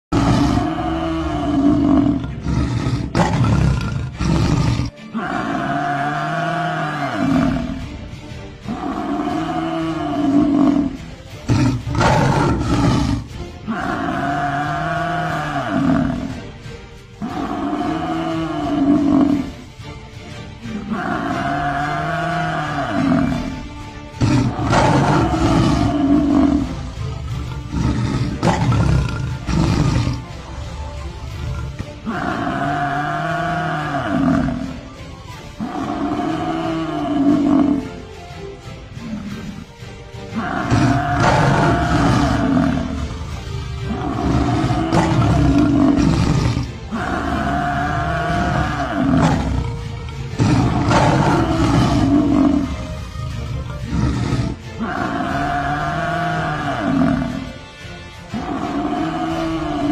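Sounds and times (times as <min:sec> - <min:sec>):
deep growl-like rumbling: 0:00.0 - 0:59.9
dramatic background music: 0:00.1 - 0:59.9.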